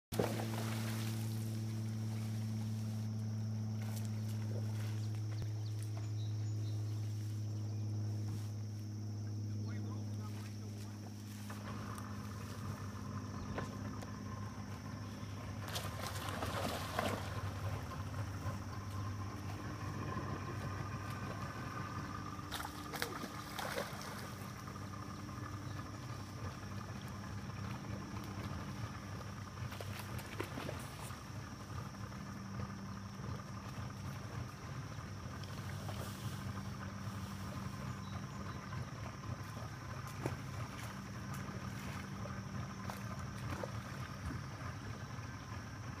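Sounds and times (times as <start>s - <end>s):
small engine humming: 0.2s - 46.0s.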